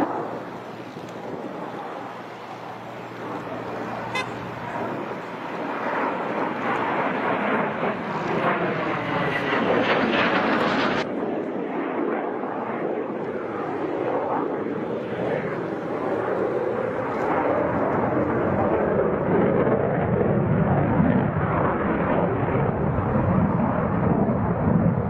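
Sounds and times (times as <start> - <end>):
fighter jet flying past: 0.0 - 25.0.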